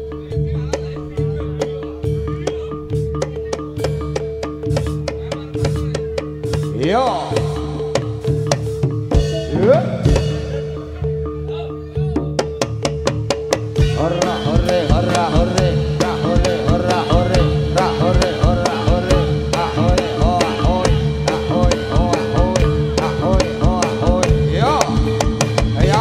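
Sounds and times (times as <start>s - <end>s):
gamelan ensemble playing: 0.0s - 26.0s
sharp regular beats: 0.0s - 26.0s
steady held tone: 0.0s - 26.0s.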